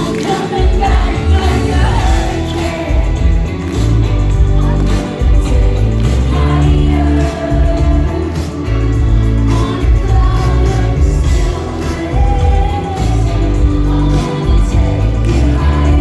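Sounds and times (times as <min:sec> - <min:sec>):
drums: 0:00.0 - 0:16.0
heavy bass line: 0:00.0 - 0:16.0
synths: 0:00.0 - 0:16.0.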